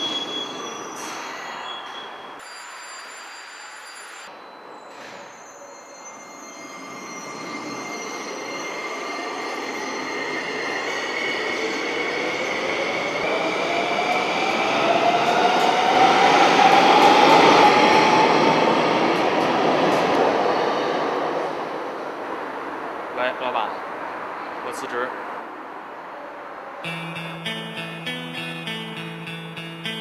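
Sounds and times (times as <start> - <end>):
subway train running noise: 0.0 - 30.0.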